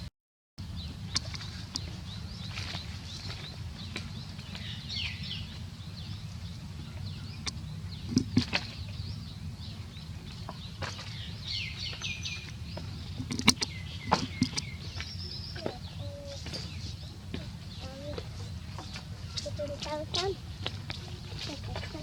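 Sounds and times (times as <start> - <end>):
small birds chirping: 0.6 - 22.0
steady low rumble: 0.6 - 22.0.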